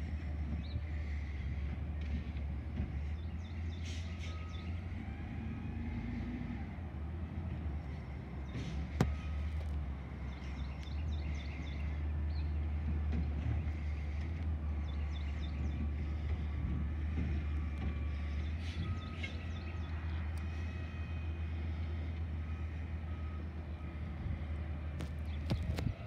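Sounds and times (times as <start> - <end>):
distant diesel engine rumble: 0.0 - 26.0.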